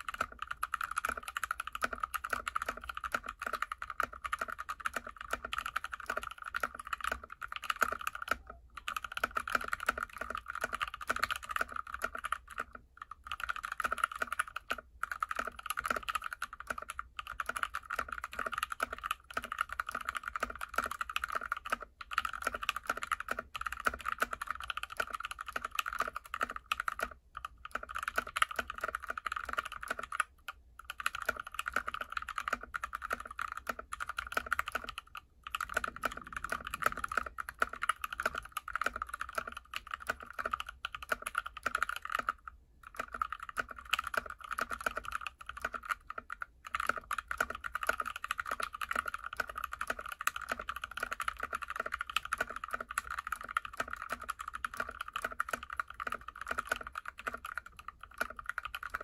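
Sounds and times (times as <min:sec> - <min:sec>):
fast mechanical keyboard typing: 0:00.0 - 0:59.0.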